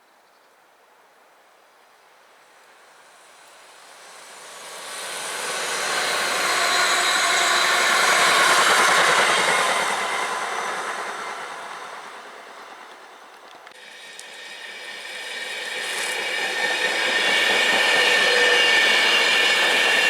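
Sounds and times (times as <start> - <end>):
train rumble and rail noise: 2.2 - 20.0.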